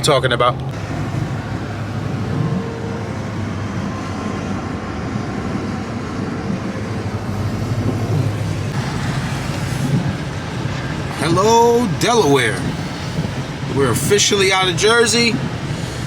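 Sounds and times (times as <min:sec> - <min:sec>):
road rumble: 0:00.0 - 0:16.0
truck engine drone: 0:00.6 - 0:16.0.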